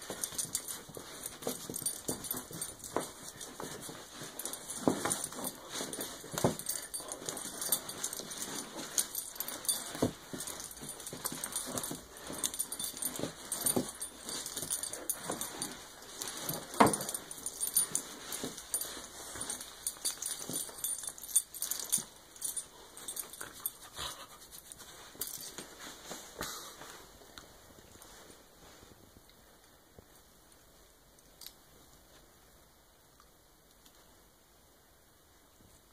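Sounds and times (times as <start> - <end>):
scuffling on a rug: 0.0 - 29.1.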